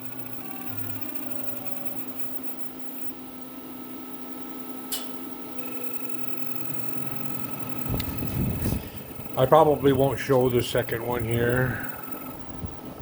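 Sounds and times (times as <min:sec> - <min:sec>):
milling machine whine: 0:00.0 - 0:13.0.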